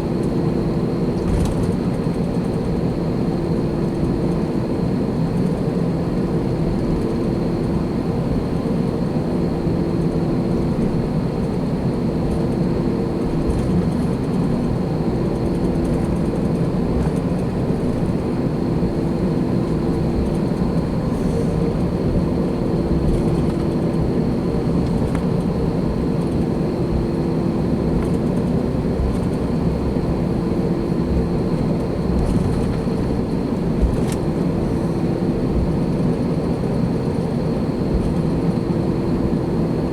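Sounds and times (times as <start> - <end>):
jet engine cabin noise: 0.0 - 39.9.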